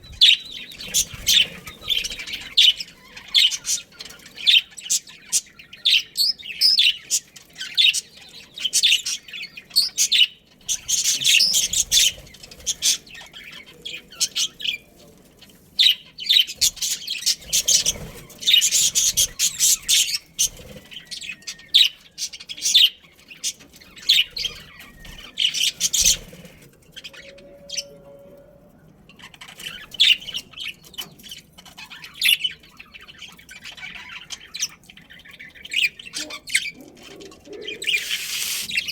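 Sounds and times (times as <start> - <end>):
budgerigars chirping: 0.0 - 28.1, 29.1 - 38.9.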